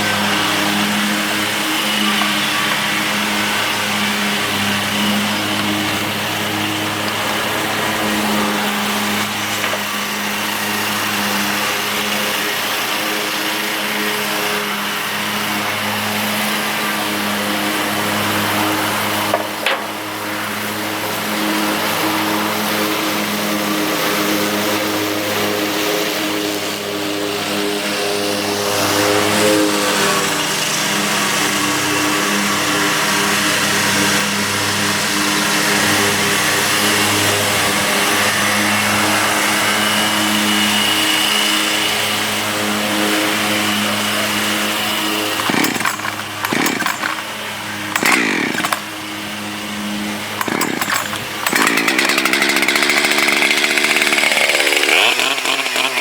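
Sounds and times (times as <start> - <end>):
chainsaw running and revving: 0.0 - 56.0.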